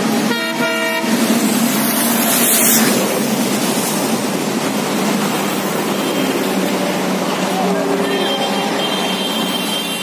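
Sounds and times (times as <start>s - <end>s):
train passing: 0.0s - 10.0s.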